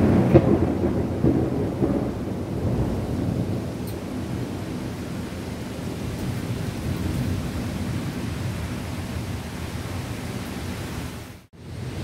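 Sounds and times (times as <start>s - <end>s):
heavy rain downpour: 0.0s - 12.0s.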